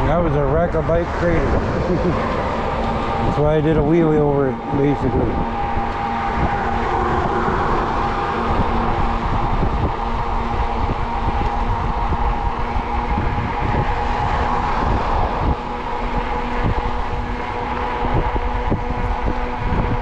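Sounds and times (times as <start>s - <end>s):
electric motor whine: 0.0s - 20.0s
wind buffeting microphone: 0.0s - 20.0s.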